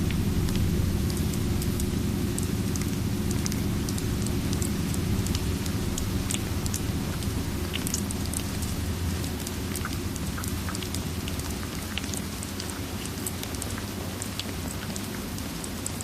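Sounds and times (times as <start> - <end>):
crackling fireplace: 0.0 - 16.0
steady rain: 0.0 - 16.0.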